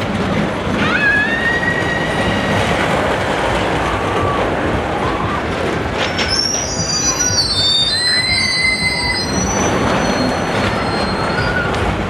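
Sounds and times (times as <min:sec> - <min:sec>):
roller coaster rolling rumble: 0:00.0 - 0:12.0
roller coaster wheels squealing: 0:00.0 - 0:12.0.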